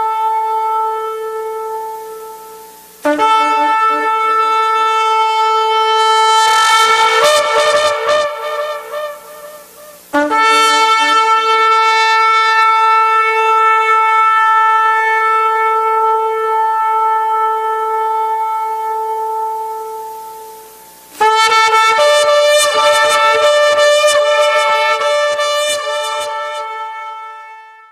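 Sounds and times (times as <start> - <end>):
shofar blast: 0.0 - 27.9.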